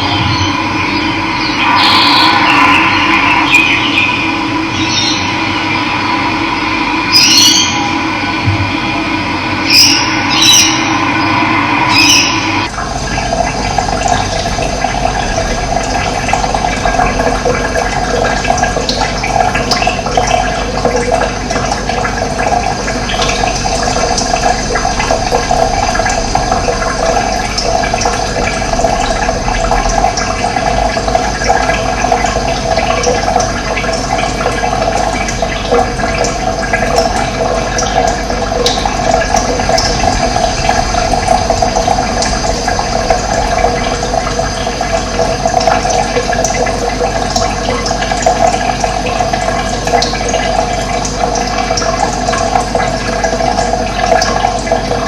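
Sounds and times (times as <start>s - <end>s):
running water gurgling: 0.0s - 55.0s.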